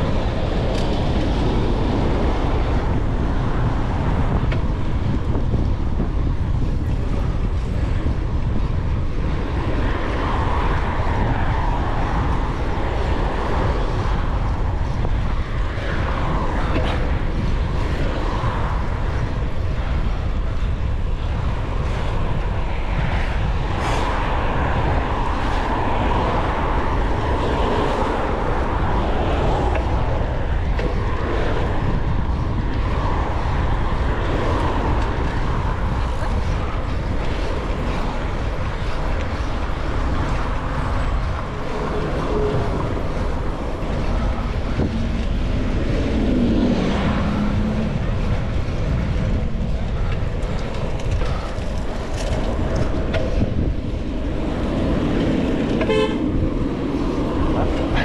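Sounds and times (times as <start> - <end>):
city traffic rumble: 0.0 - 58.0
wind rushing over microphone: 0.0 - 58.0.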